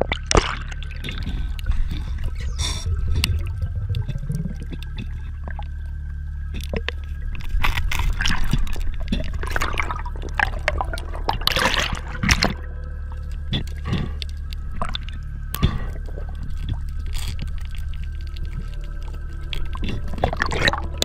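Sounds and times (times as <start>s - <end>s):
low underwater rumble: 0.0s - 21.0s
underwater bubbling and sloshing: 0.0s - 21.0s.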